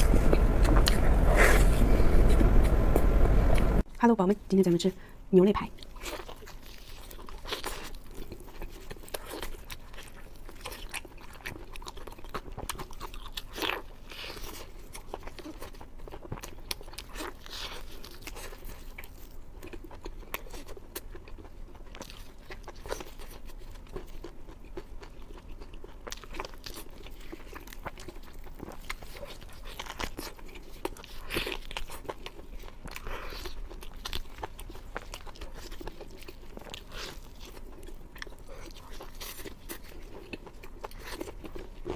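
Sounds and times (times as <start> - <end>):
person chewing with crunches: 0.0 - 3.8, 5.8 - 41.9.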